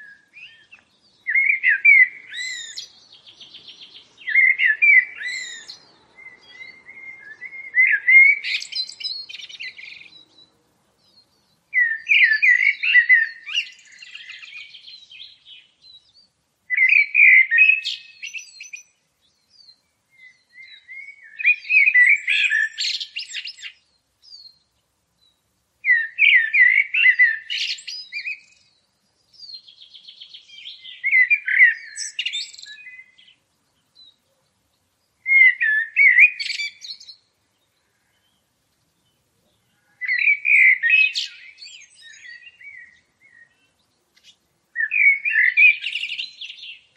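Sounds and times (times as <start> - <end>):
songbird twittering: 0.0 - 46.9.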